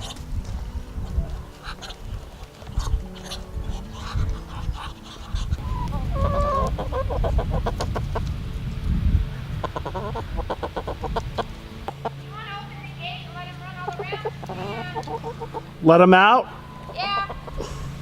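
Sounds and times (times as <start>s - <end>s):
chickens clucking: 0.0s - 8.4s, 9.5s - 12.3s, 13.5s - 18.0s.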